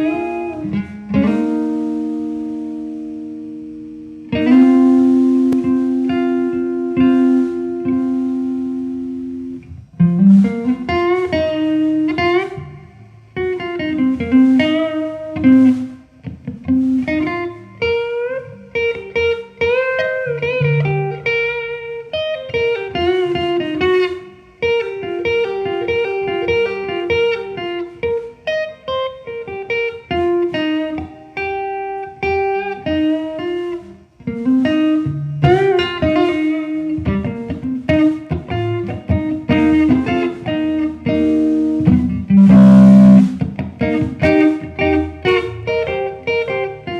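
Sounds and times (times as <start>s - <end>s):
guitar plucked melody: 0.0s - 46.9s.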